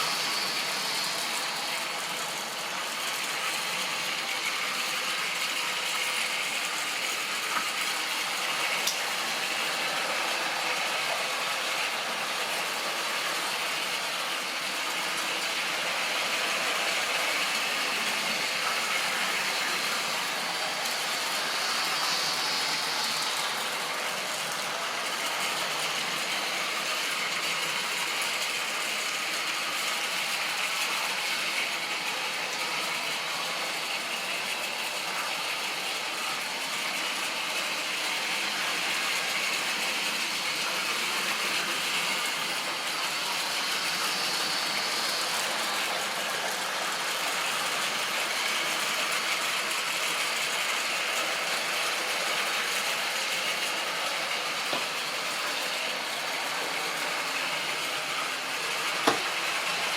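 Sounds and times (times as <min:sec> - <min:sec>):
model train whirring on track: 0:00.0 - 0:59.9.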